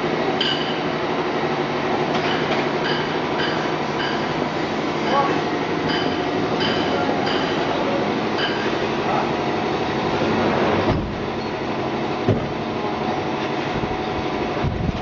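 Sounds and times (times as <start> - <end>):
frying machine rumbling: 0.0 - 15.0.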